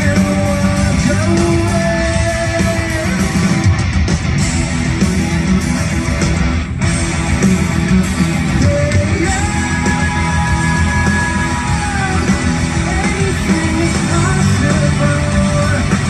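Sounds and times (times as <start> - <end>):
live rock band playing: 0.0 - 16.0
loud electric guitars: 0.0 - 16.0.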